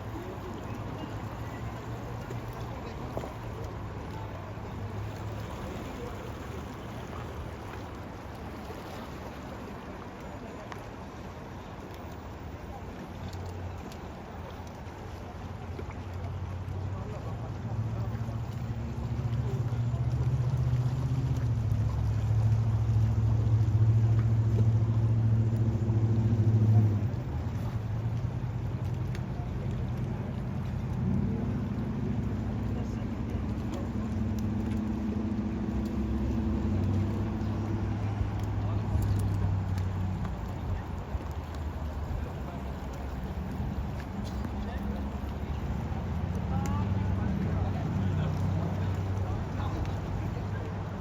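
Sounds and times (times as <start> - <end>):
low engine hum: 0.0 - 51.0
river current rushing: 0.0 - 51.0.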